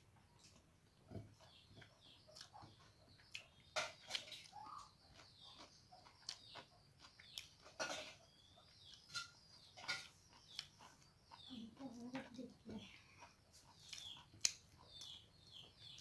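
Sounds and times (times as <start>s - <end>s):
wet chewing sounds: 0.2s - 16.0s.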